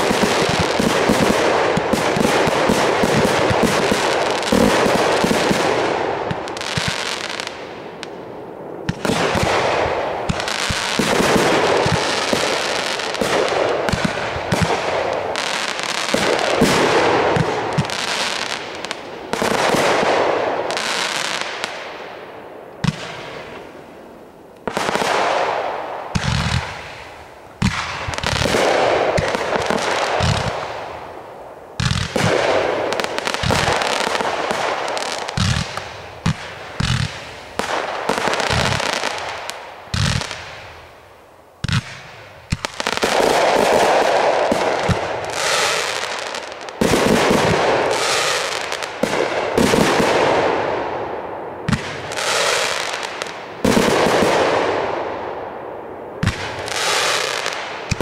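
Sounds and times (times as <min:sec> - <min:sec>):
fireworks reports with crackle: 0:00.0 - 0:58.0.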